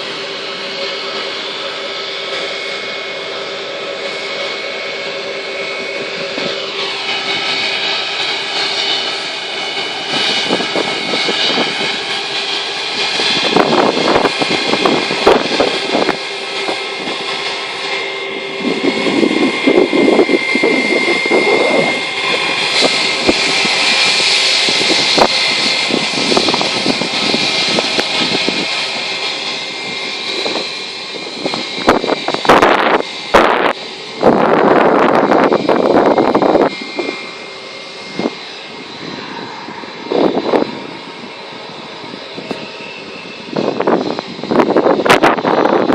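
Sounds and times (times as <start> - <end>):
jet engines at takeoff thrust: 0.0 - 45.9
wind buffeting microphone: 0.0 - 45.9.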